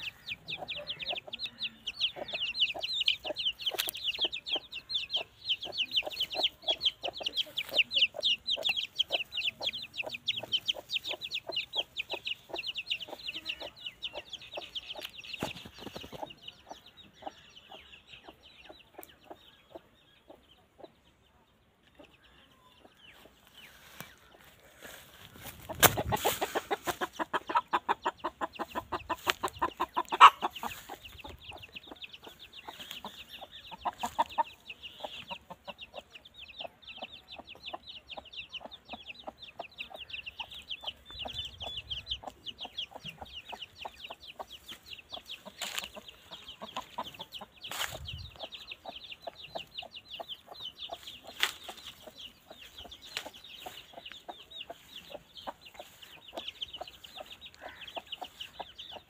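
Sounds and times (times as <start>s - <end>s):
chicks peeping: 0.0s - 59.0s
hen clucking: 0.0s - 59.0s.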